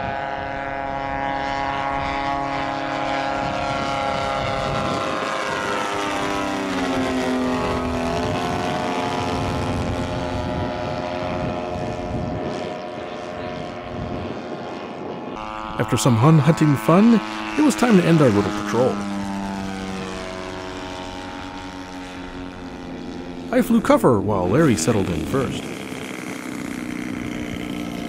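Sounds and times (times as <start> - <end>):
model plane engines droning: 0.0 - 28.0.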